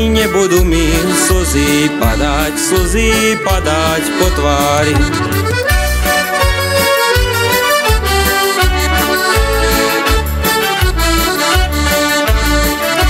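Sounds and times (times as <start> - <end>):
accordion folk tune: 0.0 - 13.0.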